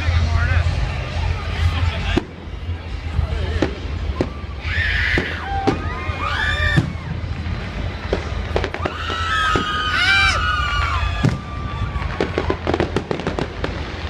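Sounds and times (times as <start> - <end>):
fireworks banging: 0.0 - 14.0
fireworks whistling: 0.0 - 14.0.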